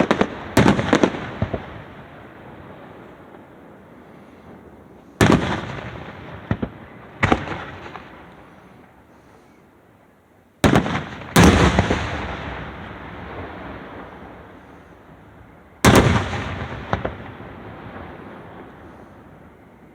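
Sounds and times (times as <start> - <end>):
fireworks bangs with echo: 0.0 - 8.6, 10.6 - 19.6.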